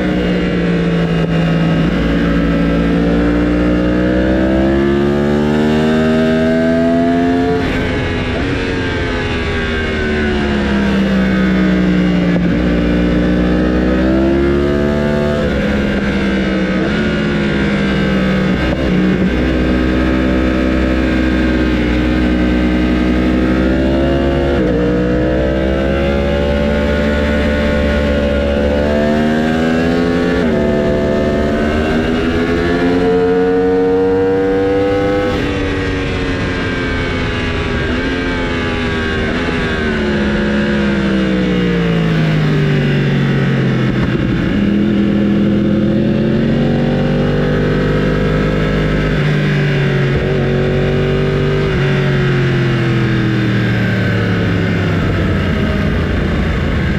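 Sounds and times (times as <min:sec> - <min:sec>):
racing motorcycle engines: 0:00.0 - 0:56.9.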